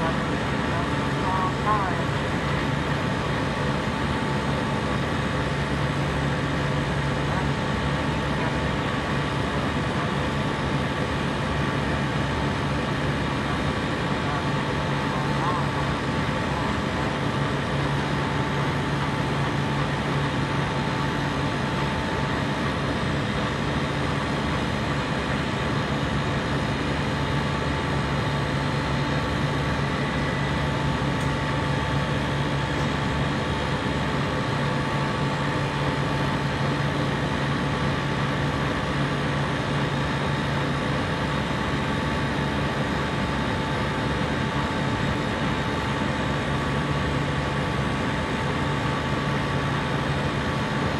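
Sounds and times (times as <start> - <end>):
compressor humming: 0.0 - 50.9.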